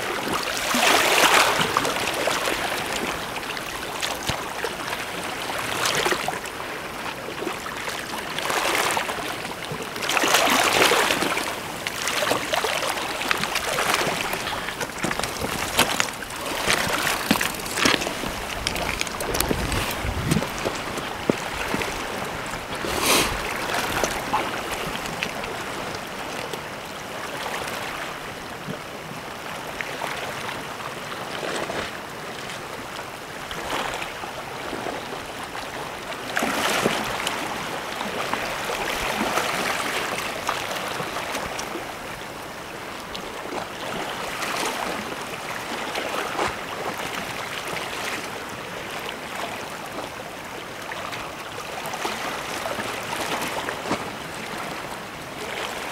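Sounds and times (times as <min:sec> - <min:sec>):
sea waves washing on shore: 0:00.0 - 0:55.9.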